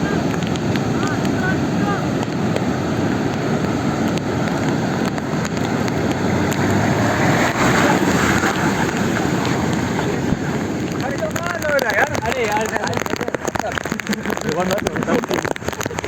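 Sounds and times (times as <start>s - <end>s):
car engine and tyres rumbling: 0.0s - 16.0s
water rushing and splashing: 0.0s - 16.0s.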